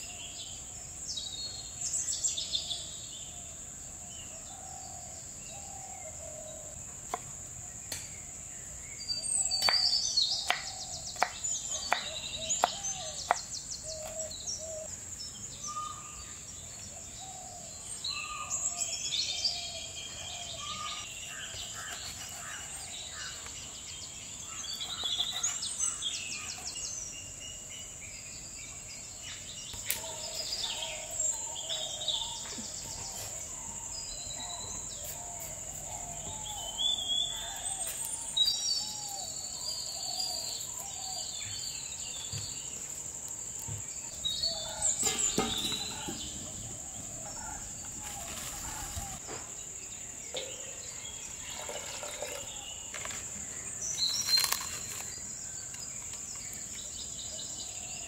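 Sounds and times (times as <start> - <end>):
birds chirping: 4.1 - 58.0.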